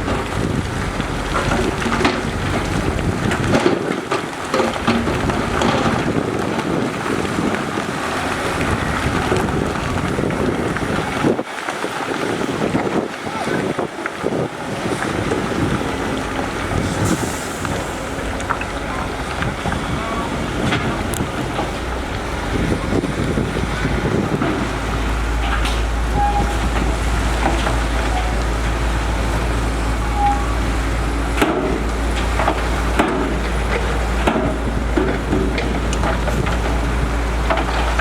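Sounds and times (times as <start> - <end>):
heavy machinery rumbling: 0.0 - 38.0
wind buffeting microphone: 0.0 - 38.0.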